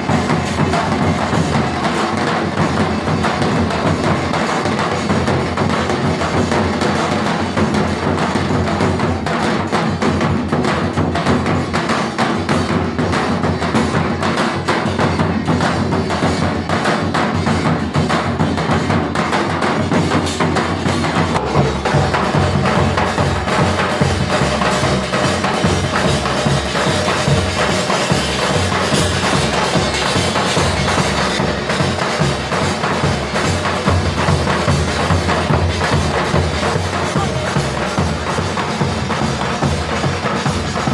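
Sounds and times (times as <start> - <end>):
dhol drum fast rhythm: 0.0 - 40.9.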